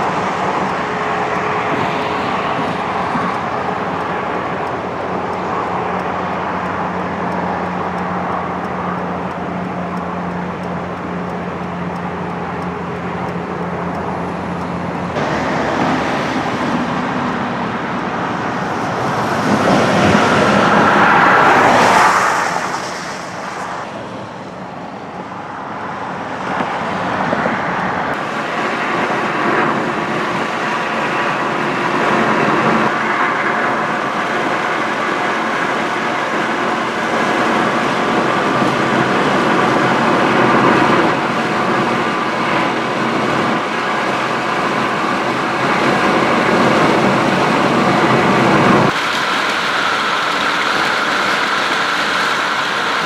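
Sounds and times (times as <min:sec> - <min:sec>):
cars going by: 0:00.0 - 0:53.0
vehicle passing close: 0:00.0 - 0:53.0.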